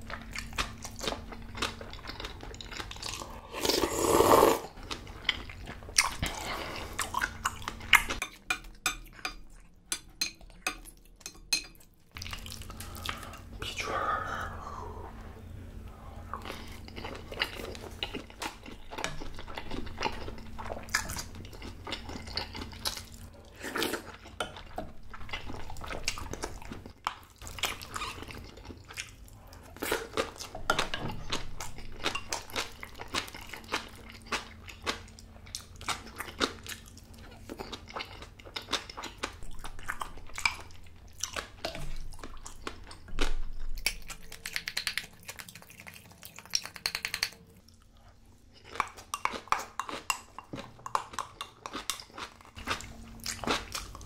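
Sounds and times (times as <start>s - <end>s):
person chewing crunchy food: 0.0s - 11.2s, 11.8s - 13.5s, 16.2s - 54.0s.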